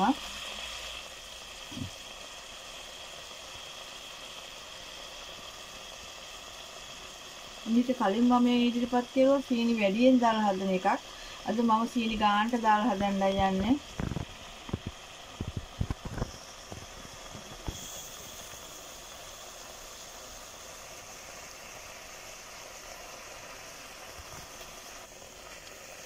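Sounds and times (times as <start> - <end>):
fruit simmering in a pot: 0.0 - 26.0.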